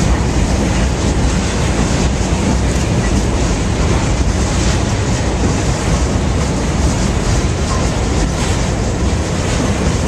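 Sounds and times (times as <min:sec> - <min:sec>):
freight train rumbling over bridge: 0:00.0 - 0:10.0.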